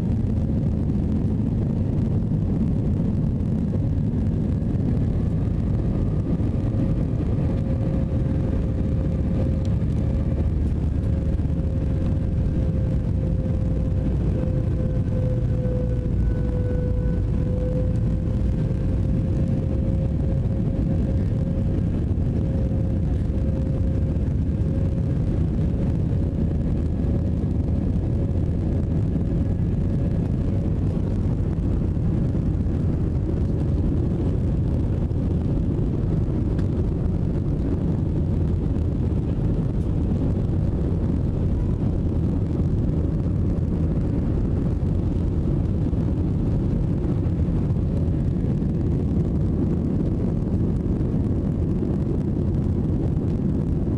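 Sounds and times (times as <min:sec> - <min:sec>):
aircraft cabin engine rush: 0:00.0 - 0:53.9
droning engine tone: 0:00.0 - 0:53.9.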